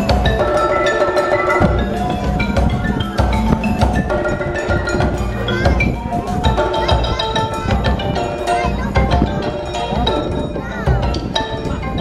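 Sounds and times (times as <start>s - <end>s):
low drum beats: 0.0s - 12.0s
tuned mallet instruments: 0.0s - 12.0s.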